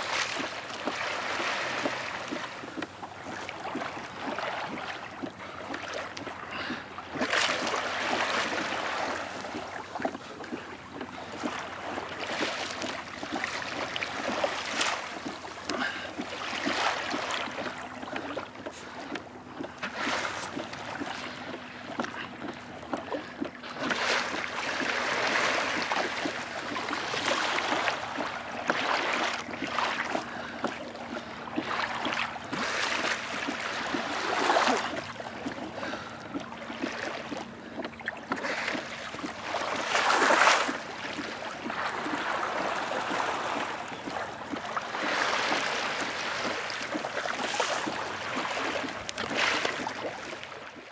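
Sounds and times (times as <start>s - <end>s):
water lapping against kayak hull: 0.0s - 50.9s.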